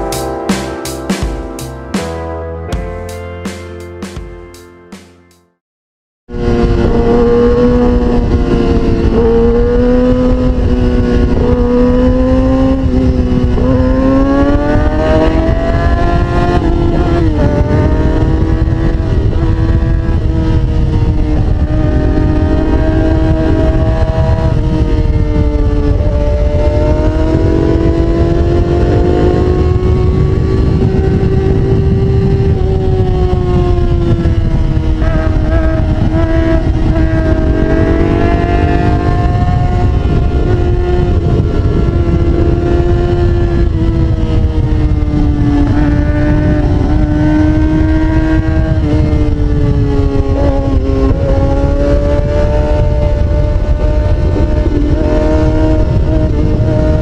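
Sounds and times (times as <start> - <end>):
motorcycle engine revving: 6.3 - 57.0
wind rumble on microphone: 6.3 - 57.0.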